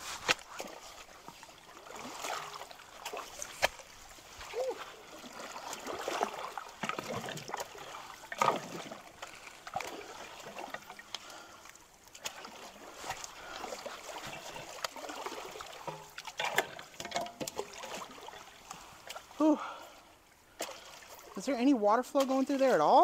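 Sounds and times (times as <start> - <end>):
trickle of flowing water: 0.0 - 23.0
water splashing and sloshing: 0.0 - 23.0.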